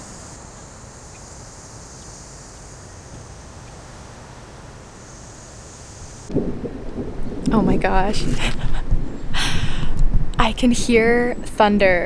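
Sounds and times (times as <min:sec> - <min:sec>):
steady high hiss: 0:00.0 - 0:12.0
wind rumble on microphone: 0:00.0 - 0:12.0.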